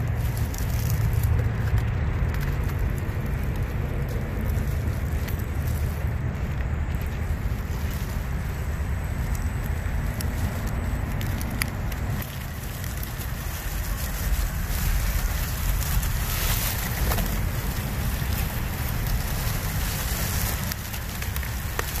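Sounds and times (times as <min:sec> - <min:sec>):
dry leaves and twigs crackling: 0:00.0 - 0:22.0
wind rumbling on microphone: 0:00.0 - 0:22.0.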